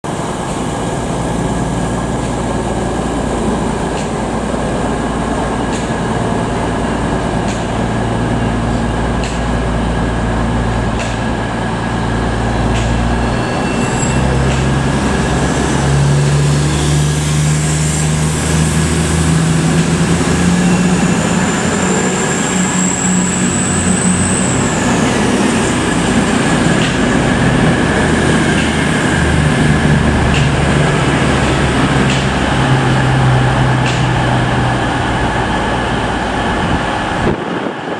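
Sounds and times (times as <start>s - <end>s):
diesel train engines running: 0.0s - 37.9s.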